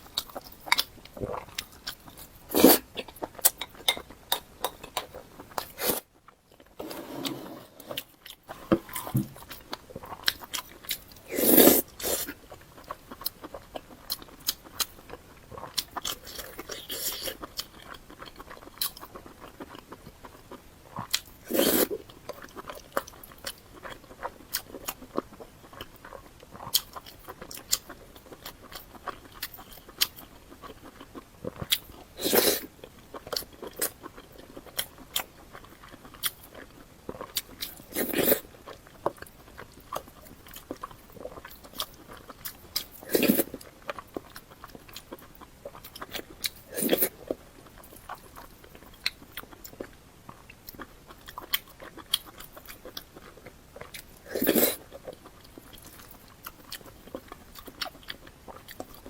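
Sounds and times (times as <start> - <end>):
chewing with wet crunches: 8.0 - 59.0.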